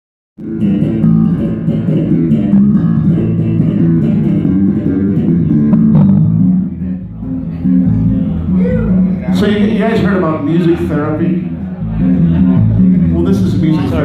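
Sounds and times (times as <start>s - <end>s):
electric bass guitar playing: 0.4s - 14.0s.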